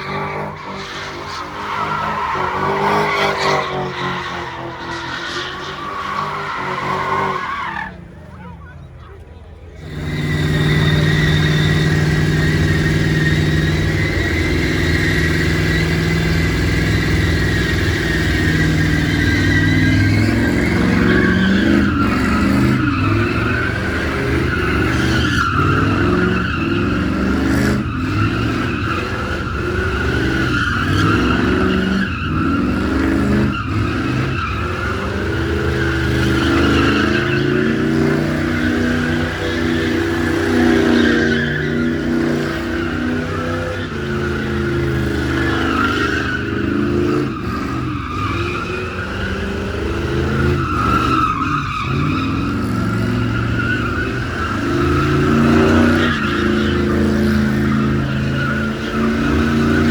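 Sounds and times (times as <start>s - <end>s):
tyres spinning and squealing: 0.0s - 59.9s
car engine revving high: 9.6s - 59.9s.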